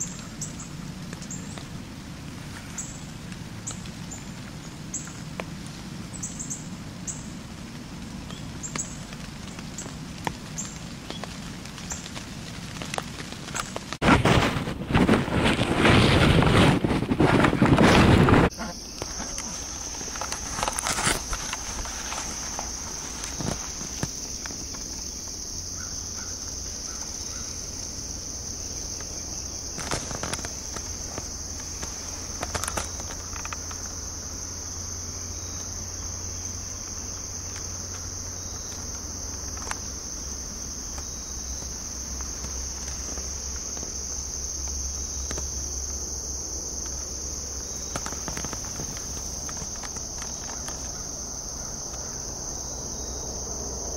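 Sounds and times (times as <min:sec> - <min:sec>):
high-pitched insect chorus: 0:00.0 - 0:14.0, 0:17.4 - 0:53.9.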